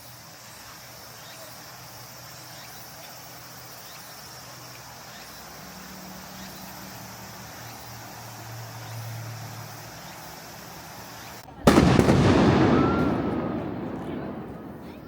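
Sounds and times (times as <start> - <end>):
insects chirping in a pulsing chorus: 0.0 - 15.0.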